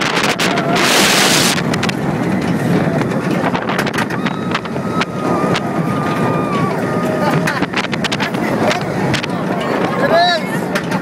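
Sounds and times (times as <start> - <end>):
roller coaster rumbling on track: 0.0 - 11.0
wind rushing over microphone: 0.0 - 11.0.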